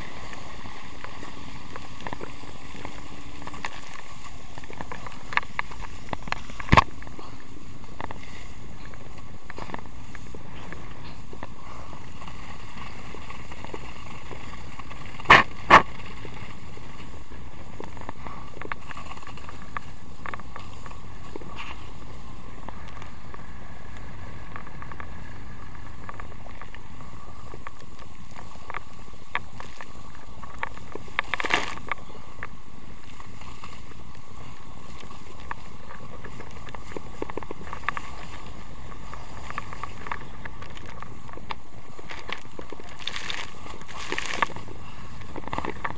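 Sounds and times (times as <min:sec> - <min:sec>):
water ski skimming over water: 0:00.0 - 0:45.9
wind on camera: 0:00.0 - 0:45.9.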